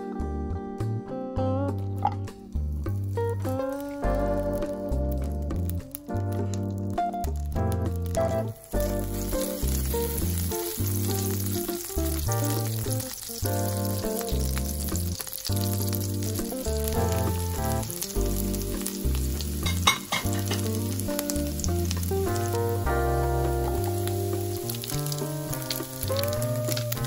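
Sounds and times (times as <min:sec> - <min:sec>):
background music with bass line: 0:00.0 - 0:27.0
butter sizzling in frying pan: 0:02.5 - 0:27.0
onions crackling in hot butter: 0:02.5 - 0:27.0.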